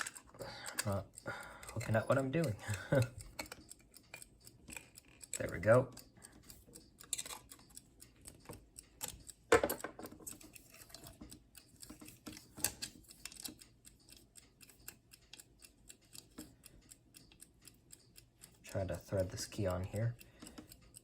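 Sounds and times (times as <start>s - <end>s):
alarm clock ticking: 0.0s - 21.0s.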